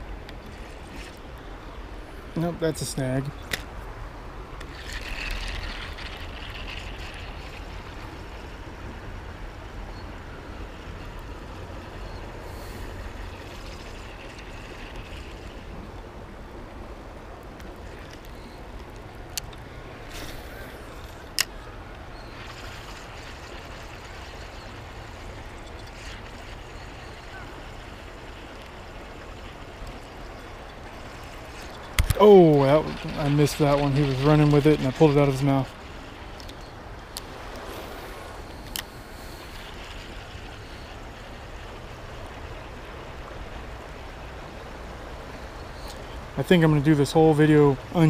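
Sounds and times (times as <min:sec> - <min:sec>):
traffic rumble on bridge: 0:00.0 - 0:48.0.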